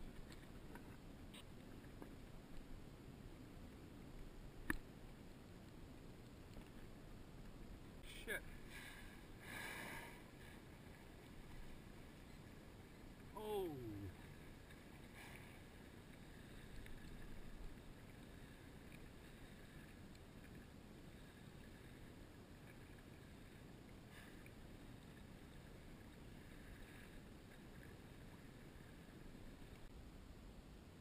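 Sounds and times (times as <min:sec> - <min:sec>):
water lapping against kayak: 0:00.0 - 0:30.0.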